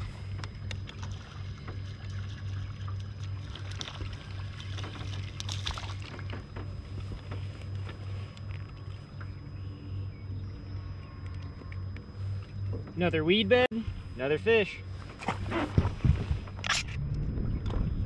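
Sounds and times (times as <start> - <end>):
low pulsing hum: 0.0 - 18.0.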